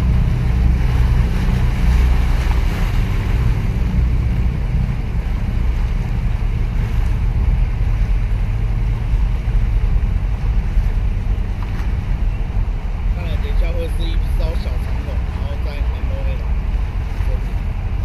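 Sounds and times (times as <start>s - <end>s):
ship engine low rumble: 0.0s - 18.0s
waves washing over concrete blocks: 0.0s - 18.0s.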